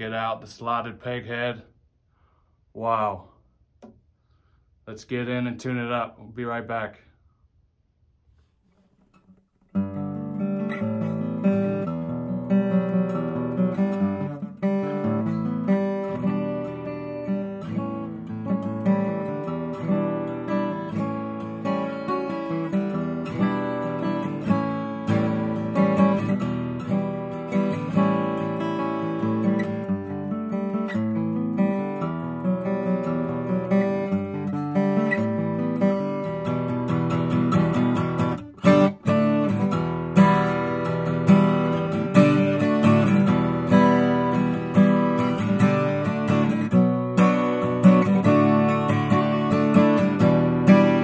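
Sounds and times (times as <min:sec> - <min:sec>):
acoustic guitar playing: 0:08.3 - 0:51.0.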